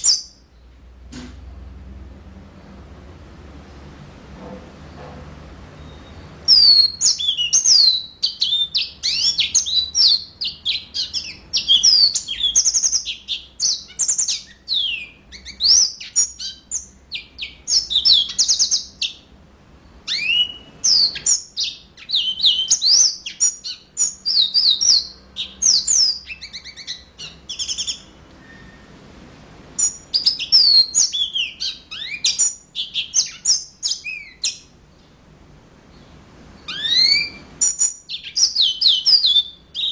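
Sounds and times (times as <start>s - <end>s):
canary singing: 0.0s - 0.7s, 5.6s - 29.0s, 29.6s - 35.1s, 35.9s - 39.9s.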